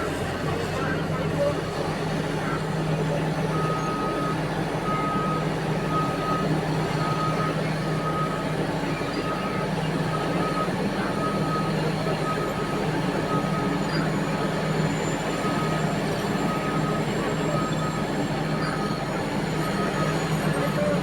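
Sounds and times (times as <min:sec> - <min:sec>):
diesel engines running: 0:00.0 - 0:21.0
reversing alarm beeping: 0:00.8 - 0:21.0.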